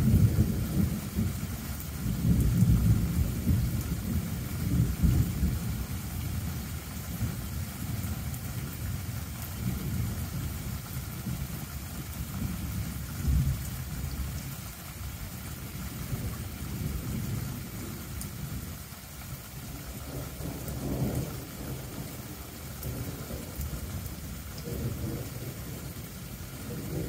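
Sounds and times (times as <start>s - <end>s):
distant thunder rumble: 0.0s - 14.5s, 19.7s - 27.0s
faint rain hiss: 0.0s - 27.0s.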